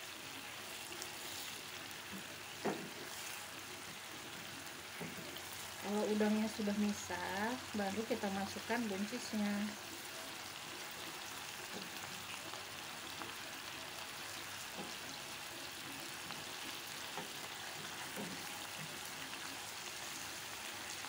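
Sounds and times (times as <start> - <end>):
shrimp sizzling in a wok: 0.0 - 21.0.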